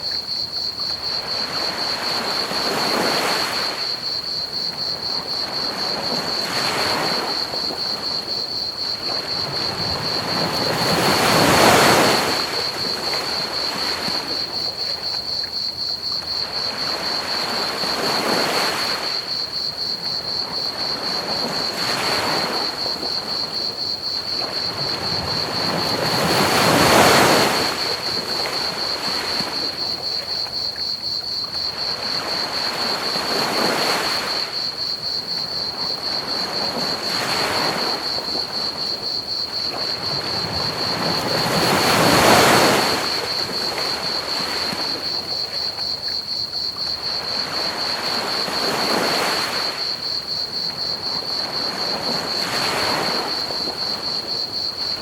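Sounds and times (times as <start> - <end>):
crickets chirping: 0.0 - 55.0
ocean waves breaking on beach: 1.0 - 15.2, 16.3 - 30.2, 31.6 - 55.0.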